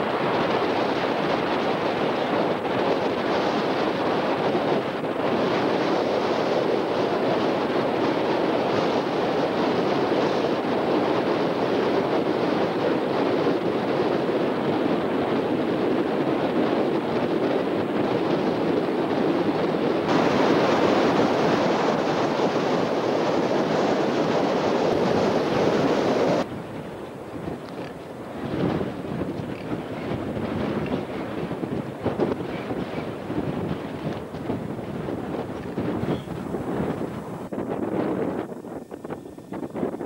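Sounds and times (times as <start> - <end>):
wind on microphone: 0.0 - 40.0.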